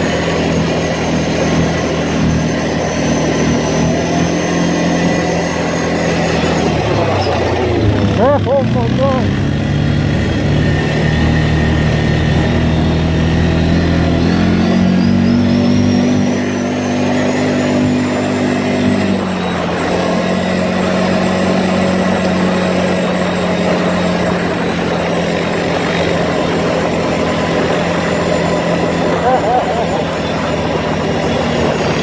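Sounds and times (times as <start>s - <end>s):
atv engine running: 0.0s - 32.0s
high whine: 0.0s - 32.0s.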